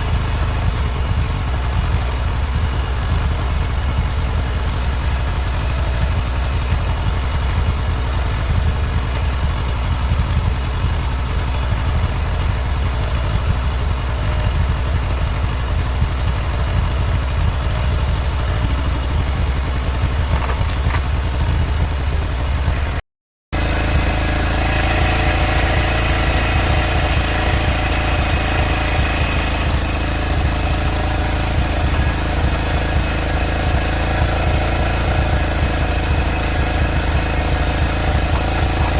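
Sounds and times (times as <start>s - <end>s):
motorcycle engine idling: 0.0s - 23.0s, 23.6s - 38.9s.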